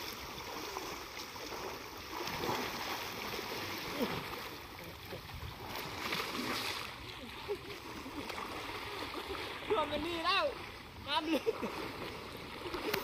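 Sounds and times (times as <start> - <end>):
water sloshing and swirling: 0.0 - 13.0.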